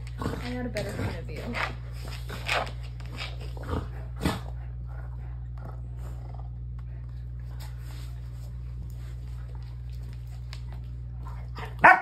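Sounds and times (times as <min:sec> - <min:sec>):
dogs playing rough: 0:00.0 - 0:12.0.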